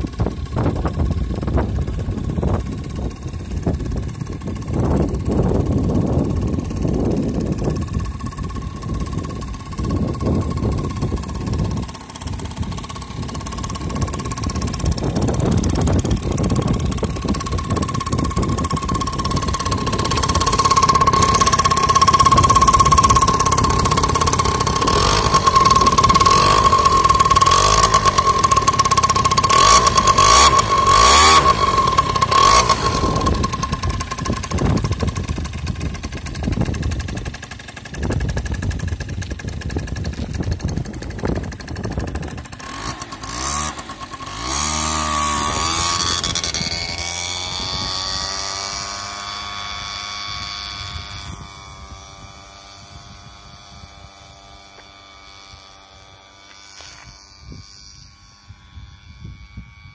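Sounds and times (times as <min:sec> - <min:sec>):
scooter engine revving: 0:00.0 - 0:59.8.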